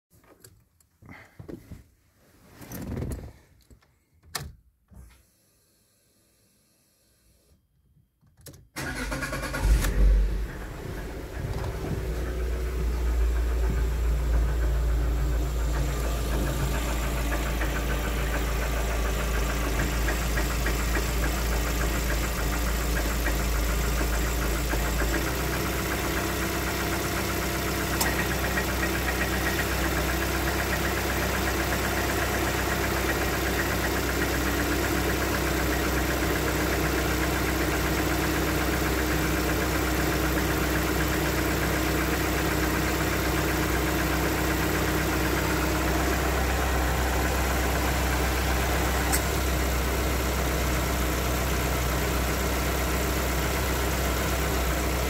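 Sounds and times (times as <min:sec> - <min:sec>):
car engine idling with knock: 0:10.2 - 0:55.0.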